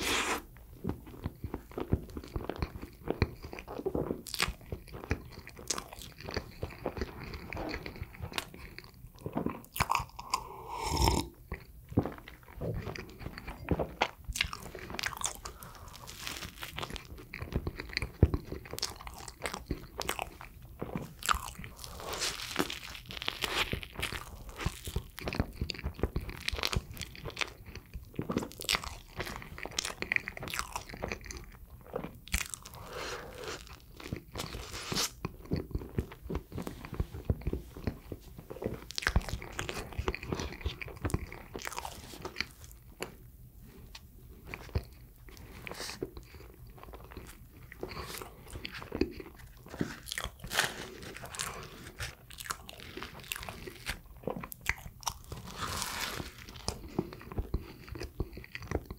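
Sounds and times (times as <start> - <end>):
person chewing bread: 0.0 - 58.9.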